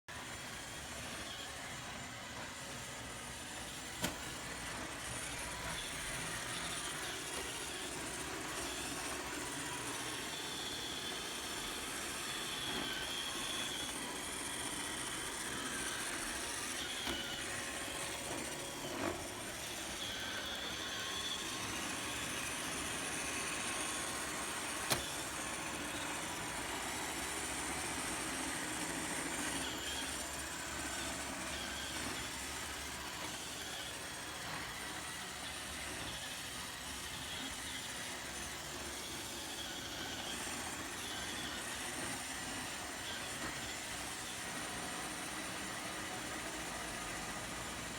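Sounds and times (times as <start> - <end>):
robot vacuum whirring: 0.1 - 47.9.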